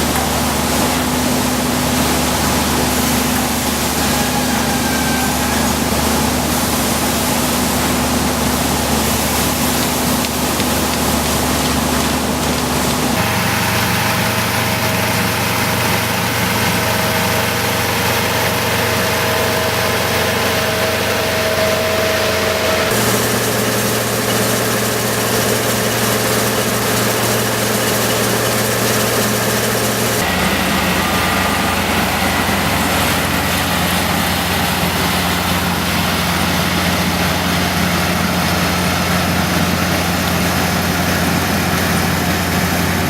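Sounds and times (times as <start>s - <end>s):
harvesting machine engine running: 0.0s - 43.0s.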